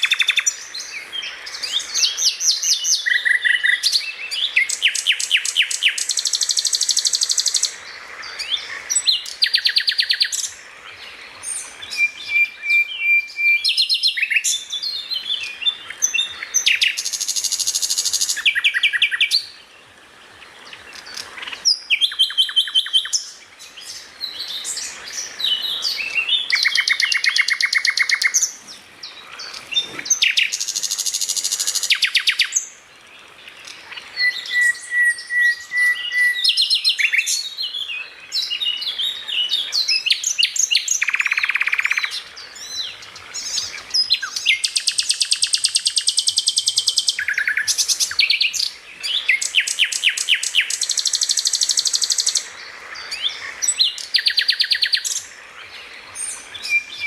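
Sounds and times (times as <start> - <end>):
songbird singing trills: 0.0 - 57.0.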